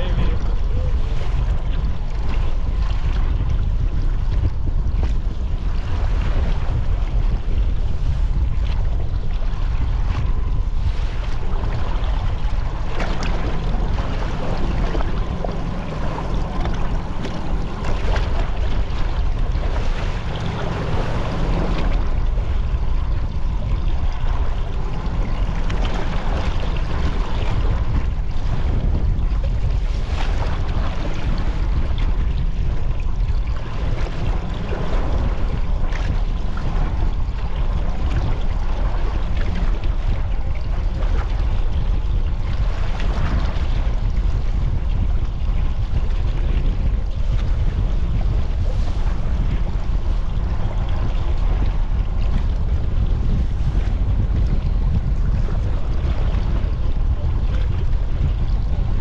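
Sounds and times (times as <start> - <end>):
boat motor rumble: 0.0 - 59.0
water slapping against hull: 0.0 - 59.0.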